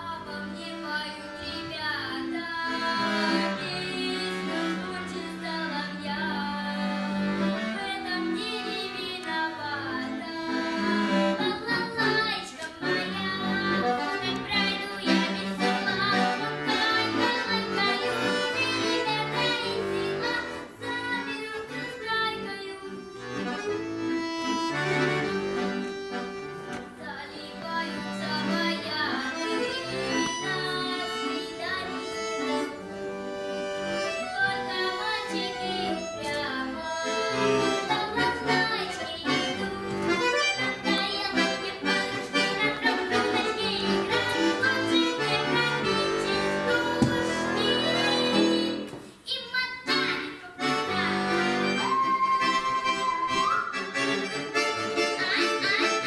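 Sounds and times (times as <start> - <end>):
accordion playing solo: 0.0 - 56.0.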